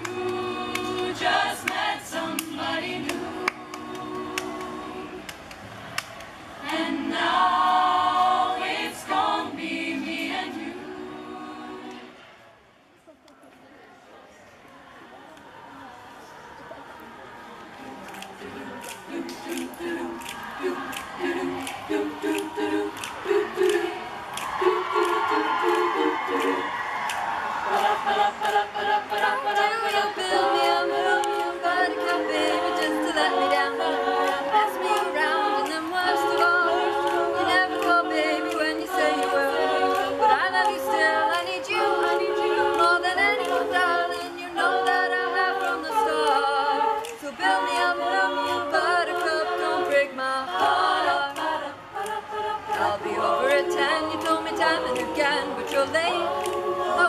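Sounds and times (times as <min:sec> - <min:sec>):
a cappella group singing: 0:00.0 - 0:12.4, 0:18.2 - 0:57.0.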